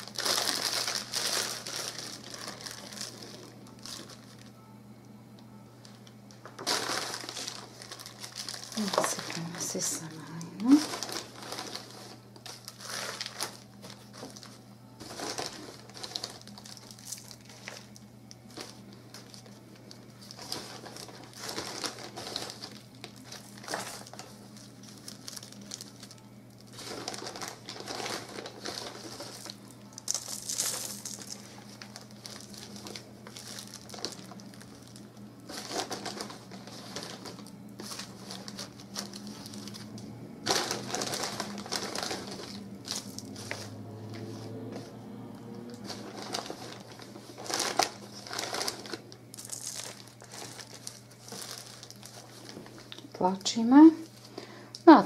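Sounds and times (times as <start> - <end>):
plastic bag crinkling: 0.0 - 4.6, 5.8 - 55.0
steady low hum: 0.0 - 55.0.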